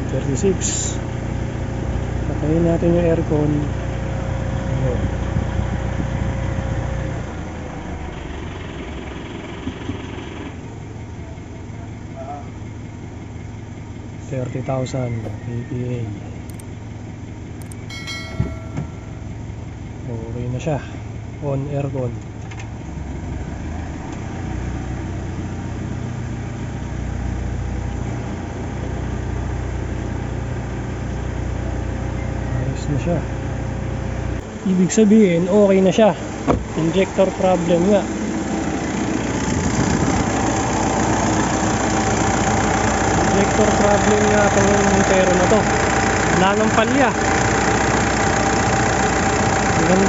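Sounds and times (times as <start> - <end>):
diesel engine idling: 0.0 - 50.0.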